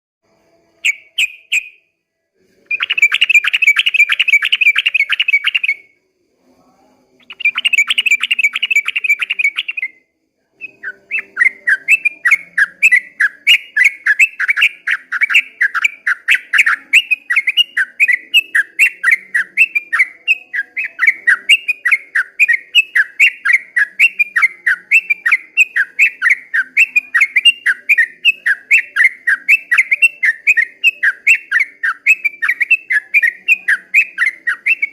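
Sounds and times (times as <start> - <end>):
bulbul singing: 0.3 - 6.0, 6.6 - 34.9.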